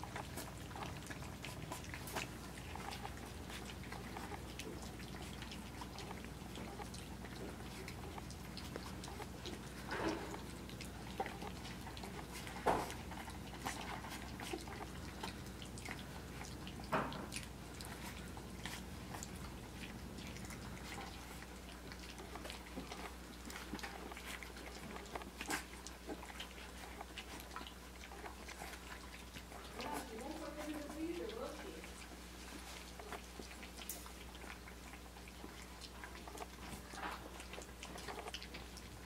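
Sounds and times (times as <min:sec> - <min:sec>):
puppies lapping and chewing: 0:00.0 - 0:39.0.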